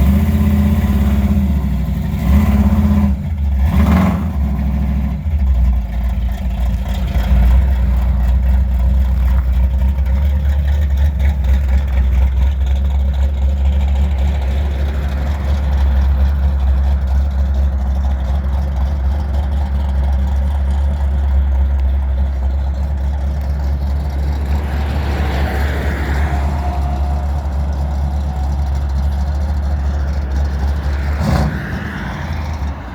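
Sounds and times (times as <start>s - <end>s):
car engine idling loudly: 0.0s - 32.9s.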